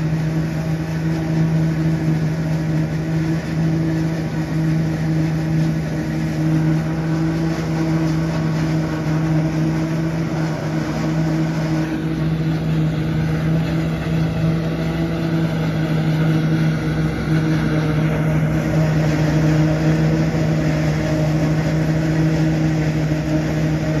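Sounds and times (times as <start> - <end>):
tractor engine under load: 0.0 - 24.0.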